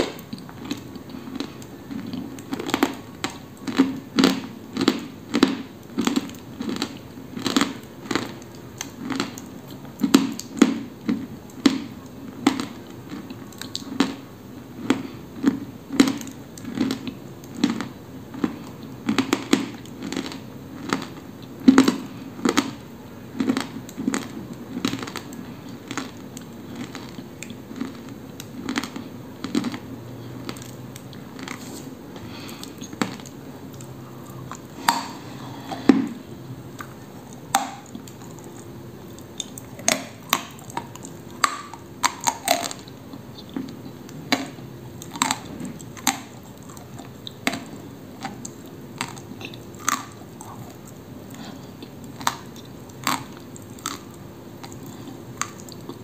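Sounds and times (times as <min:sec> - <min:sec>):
clay crunching being chewed: 0:00.0 - 0:56.0.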